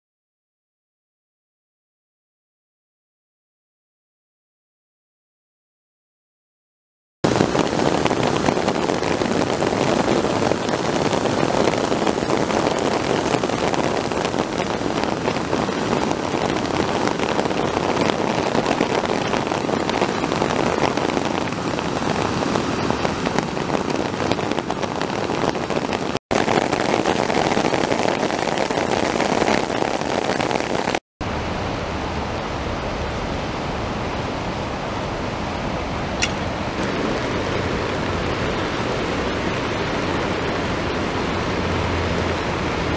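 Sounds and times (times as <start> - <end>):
floodwater rushing: 7.2 - 42.9
rain: 7.2 - 42.9.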